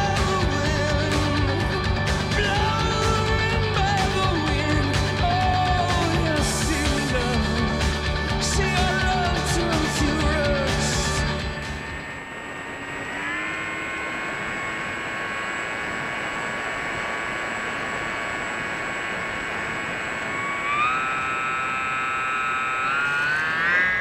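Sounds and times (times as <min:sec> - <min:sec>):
electric motor and propeller whine: 0:00.0 - 0:24.0.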